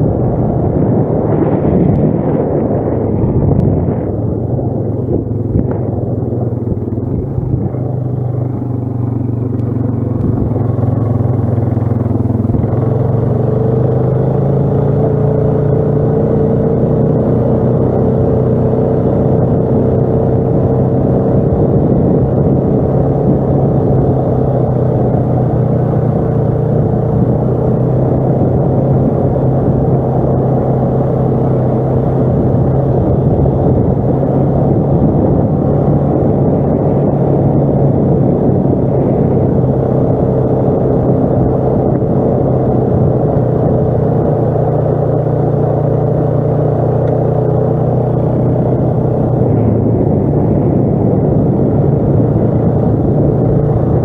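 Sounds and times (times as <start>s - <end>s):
atv engine droning: 0.0s - 54.0s.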